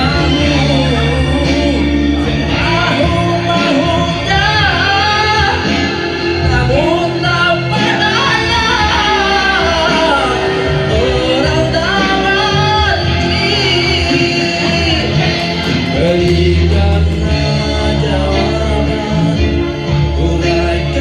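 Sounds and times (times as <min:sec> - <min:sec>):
man singing into microphone: 0:00.0 - 0:21.0
recorded backing music: 0:00.0 - 0:21.0.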